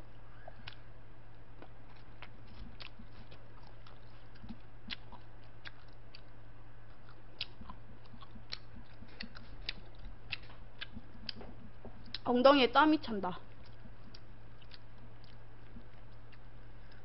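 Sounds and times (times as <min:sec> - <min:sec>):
low hum: 0:00.0 - 0:17.0
person chewing noodles: 0:00.1 - 0:12.2, 0:13.4 - 0:17.0.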